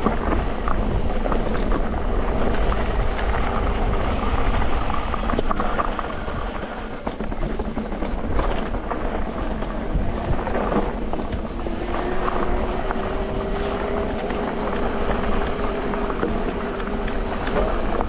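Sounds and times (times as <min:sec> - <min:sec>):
bike rattling: 0:00.0 - 0:18.0
bike tyres on dirt trail: 0:00.0 - 0:18.0
electric motor whine: 0:00.0 - 0:18.0.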